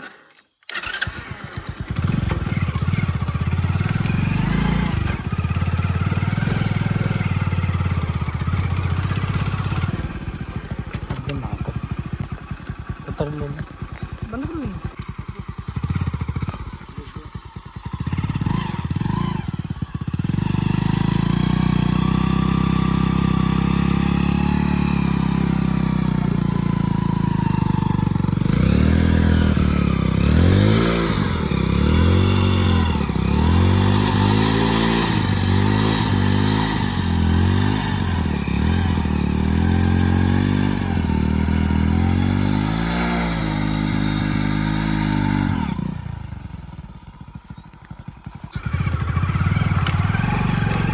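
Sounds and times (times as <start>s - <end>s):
motorcycle engine running: 0.7s - 50.9s.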